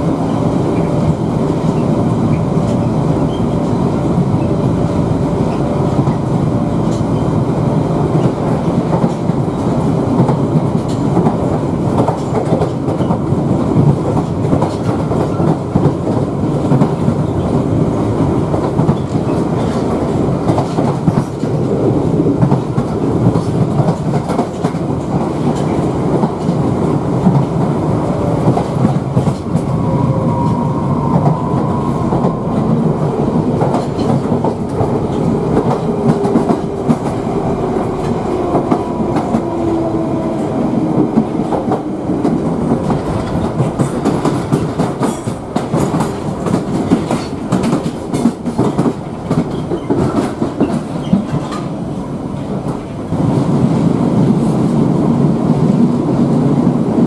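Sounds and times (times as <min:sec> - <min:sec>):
clickety-clack over rail joints: 0:00.0 - 0:04.7, 0:05.4 - 0:07.4, 0:08.0 - 0:29.8, 0:30.5 - 0:57.0
train wheels rumbling on rails: 0:00.0 - 0:57.0.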